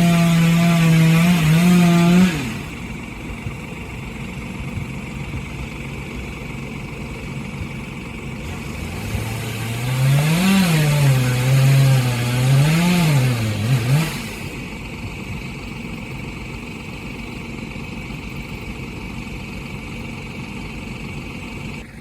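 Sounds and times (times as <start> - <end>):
engine running and revving: 0.0 - 22.0.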